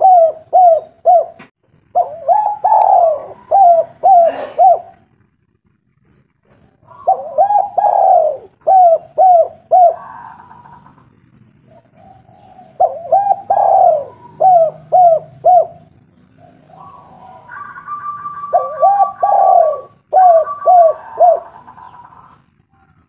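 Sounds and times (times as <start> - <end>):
dove cooing: 0.0 - 5.1, 6.7 - 22.6.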